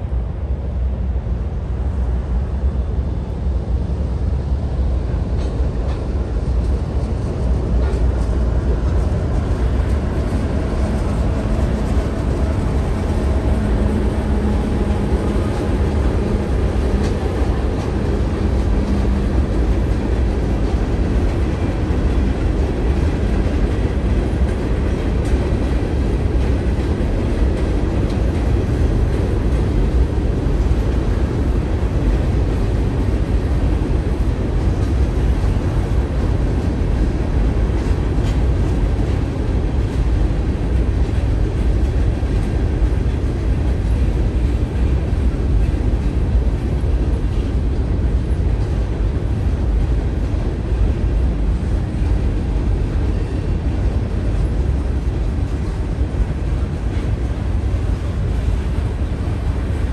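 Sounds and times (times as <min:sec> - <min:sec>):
freight train rumbling on bridge: 0:00.0 - 0:59.9
low locomotive engine hum: 0:00.0 - 0:59.9
wheels clicking on rail joints: 0:05.1 - 0:59.9.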